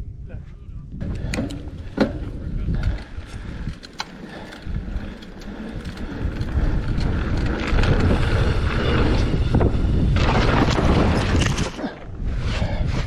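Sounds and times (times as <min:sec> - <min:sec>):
wind buffeting microphone: 0:00.0 - 0:13.0
bike clicks and rattles: 0:01.0 - 0:12.1.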